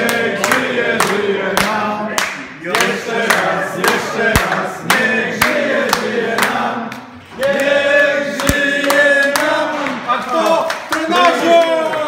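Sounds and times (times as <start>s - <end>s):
group of people singing: 0.0s - 10.1s
people clapping in time: 0.0s - 12.0s.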